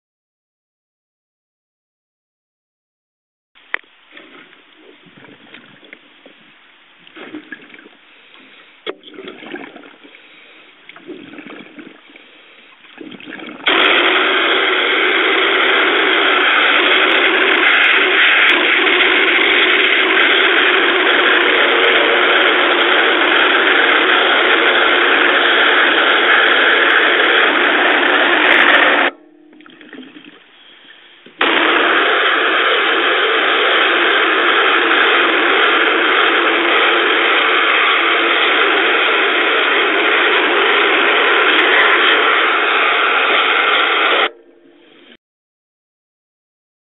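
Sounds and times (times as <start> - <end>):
faint underwater noise: 3.6 - 45.2
underwater jet rushing: 4.0 - 44.3.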